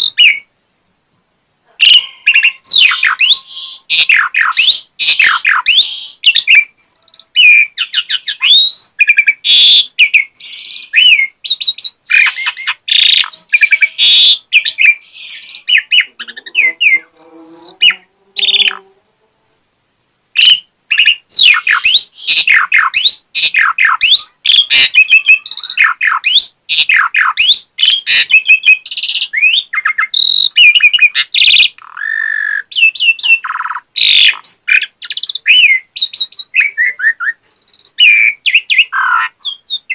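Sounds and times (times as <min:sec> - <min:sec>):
starling singing: 0:00.0 - 0:00.5, 0:01.7 - 0:19.6, 0:20.3 - 0:39.9.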